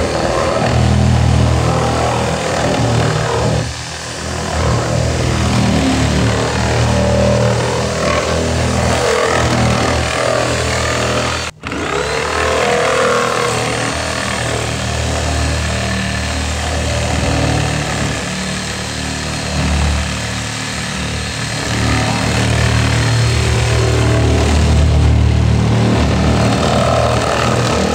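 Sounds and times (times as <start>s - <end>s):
power saw cutting plastic: 0.0s - 27.9s.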